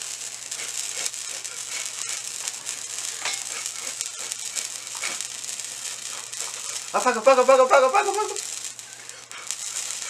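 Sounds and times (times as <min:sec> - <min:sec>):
sparkler fizzing and crackling: 0:00.0 - 0:10.0.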